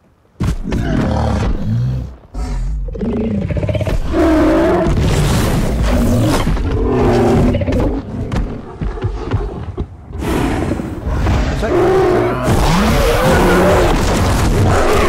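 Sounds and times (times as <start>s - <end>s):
dinosaur roars and growls: 0.6s - 8.1s, 10.2s - 15.0s.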